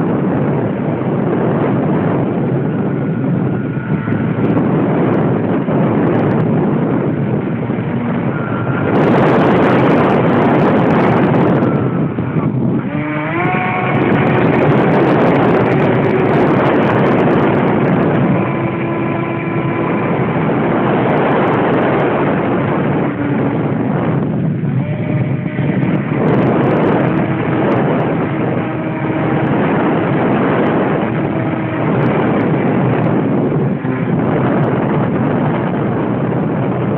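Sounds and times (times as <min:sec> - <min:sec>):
radio-controlled airplane flying: 0:00.0 - 0:36.9.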